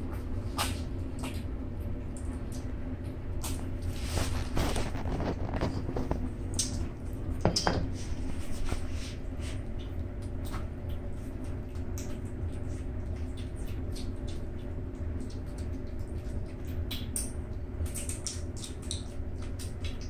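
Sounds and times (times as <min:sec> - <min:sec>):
kittens chewing wet food: 0:00.0 - 0:20.0.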